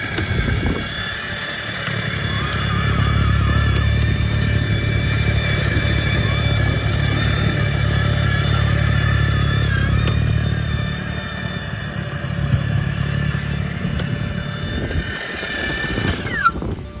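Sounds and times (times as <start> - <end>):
engine rumbling: 0.0 - 17.0
thin high whine: 0.0 - 17.0.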